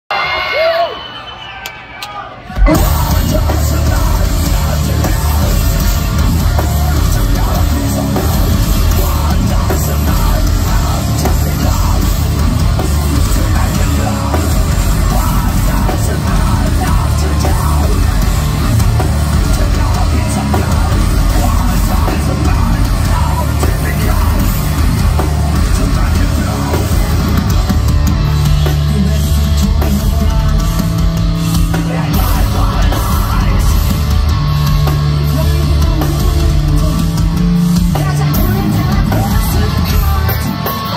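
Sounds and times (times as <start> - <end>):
distorted bass and guitar: 2.5 - 40.9
heavy metal band playing live: 2.5 - 40.9
pounding drum kit: 2.5 - 40.9
vocalist singing into microphone: 2.5 - 40.9.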